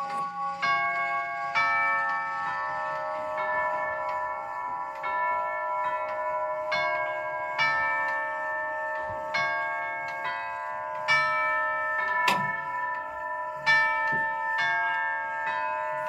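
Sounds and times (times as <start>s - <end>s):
clock chime tubes ringing: 0.0s - 16.0s.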